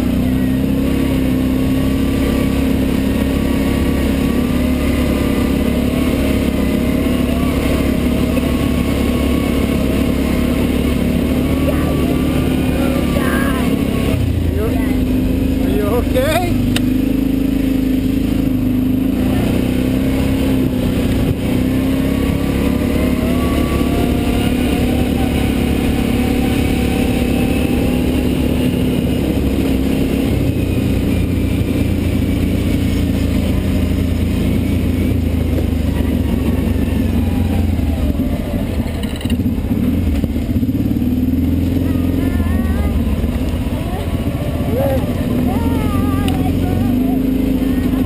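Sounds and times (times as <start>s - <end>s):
atv engine running: 0.0s - 48.0s
constant low rumble: 0.0s - 48.0s.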